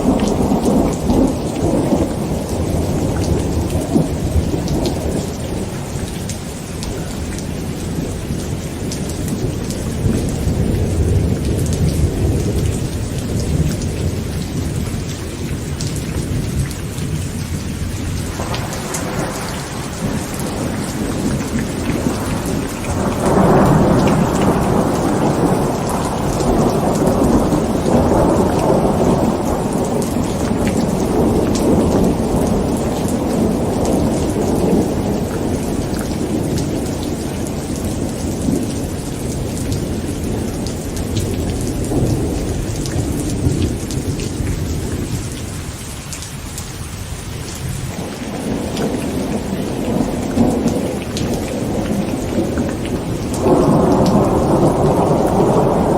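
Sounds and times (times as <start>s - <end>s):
rolling thunder: 0.0s - 45.6s, 47.6s - 55.9s
heavy rain pattering on a tent: 0.0s - 55.9s.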